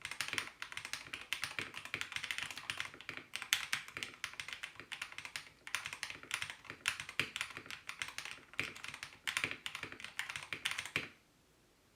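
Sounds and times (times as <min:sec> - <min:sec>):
fast typing on mechanical keyboard: 0:00.0 - 0:11.2.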